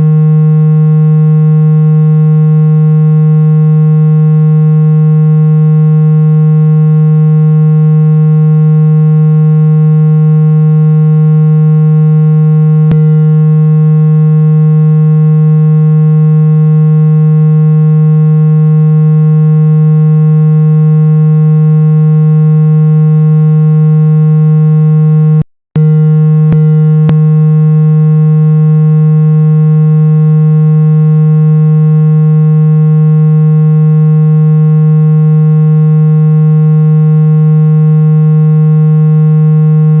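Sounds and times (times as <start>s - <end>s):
buzzy low electronic tone: 0.0s - 40.0s.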